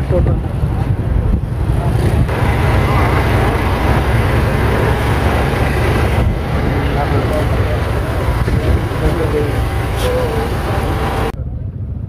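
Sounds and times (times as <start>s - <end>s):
crowd voices: 0.0s - 11.7s
vehicle engines running: 0.0s - 12.0s.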